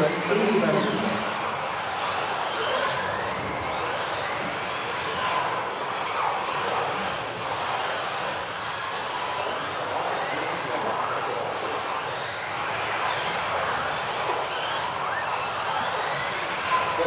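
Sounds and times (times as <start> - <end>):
electric rc motors whining: 0.0 - 17.0.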